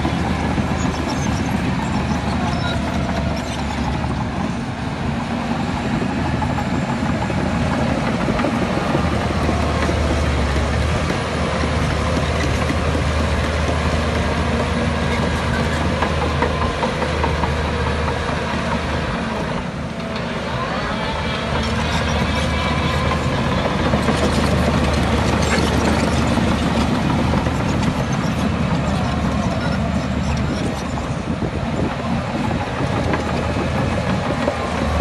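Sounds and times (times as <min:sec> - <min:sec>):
diesel machinery engine drone: 0:00.0 - 0:35.0.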